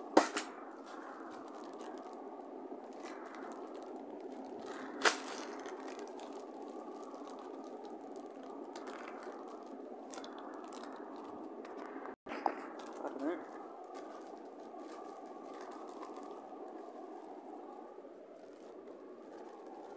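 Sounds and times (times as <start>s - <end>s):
plastic packaging crinkling: 0.8s - 17.3s, 18.3s - 19.9s.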